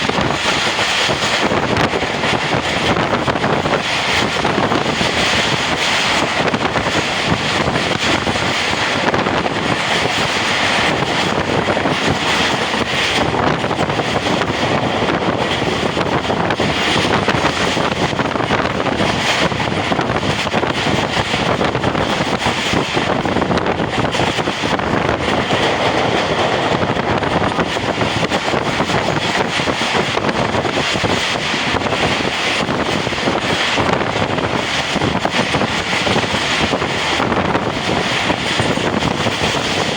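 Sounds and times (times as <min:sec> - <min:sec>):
train wheels on rails: 0:00.0 - 0:39.9
wind on microphone: 0:00.0 - 0:39.9.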